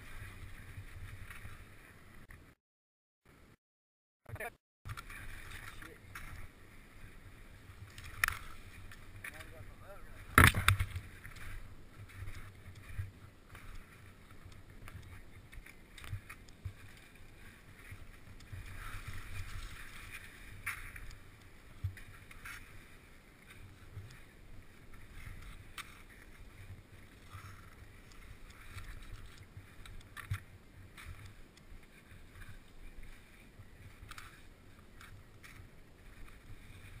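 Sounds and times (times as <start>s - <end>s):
skis scraping over snow: 0.0s - 2.3s, 5.1s - 37.0s.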